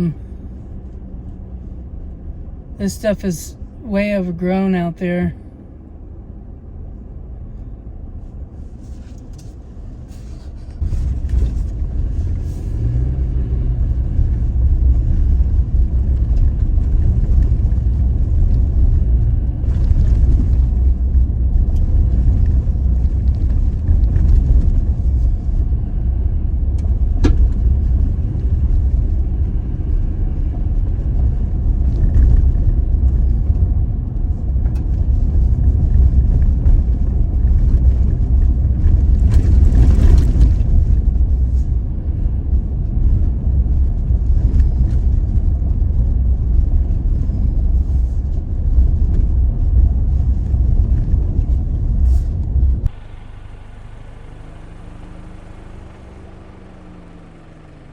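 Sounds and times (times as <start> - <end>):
pickup engine and tyres rumbling: 0.0 - 57.9.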